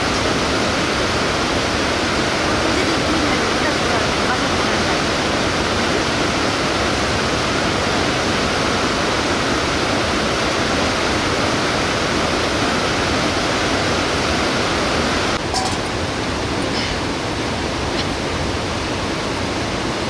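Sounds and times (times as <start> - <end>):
fast river rushing: 0.0 - 20.0.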